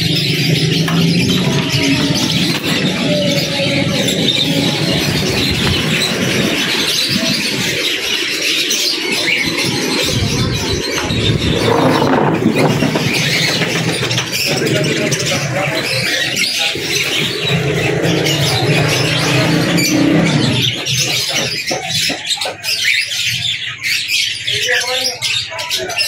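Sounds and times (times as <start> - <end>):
caged birds chirping and chattering: 0.0 - 26.0.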